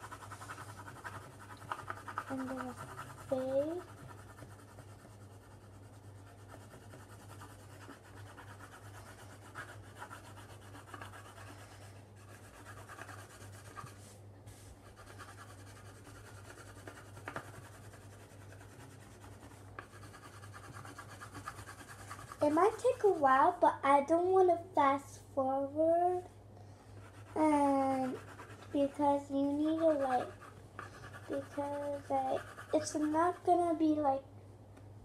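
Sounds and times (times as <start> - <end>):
pencil scratching on paper: 0.0 - 23.6, 27.0 - 33.8.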